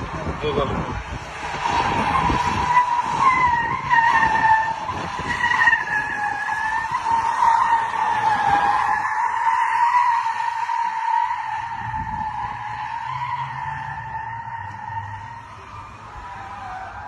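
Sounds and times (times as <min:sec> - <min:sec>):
car rumble: 0:00.0 - 0:17.0
car tyres squealing: 0:00.0 - 0:17.0.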